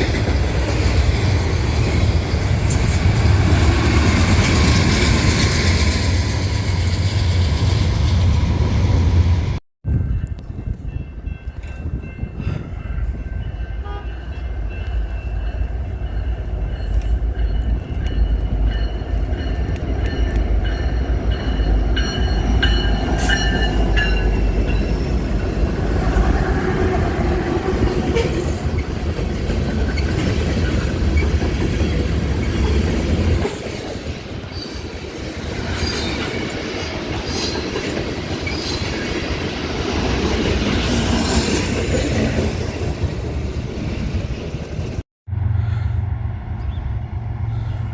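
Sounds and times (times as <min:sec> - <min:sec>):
train wheels rumbling: 0:00.0 - 0:47.9.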